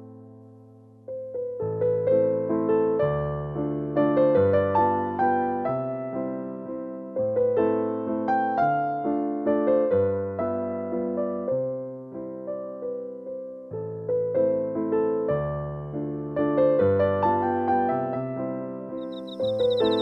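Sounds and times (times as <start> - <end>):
soft electric piano music: 0.0 - 20.0.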